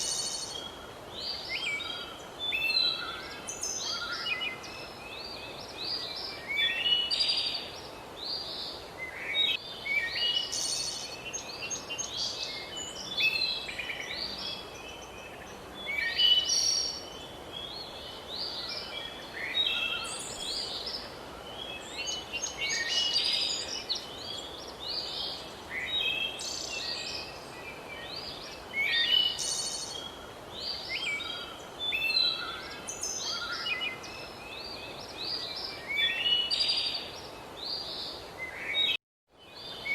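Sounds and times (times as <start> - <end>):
birds chirping and trilling: 0.0 - 39.9
steady background hiss: 0.0 - 39.9.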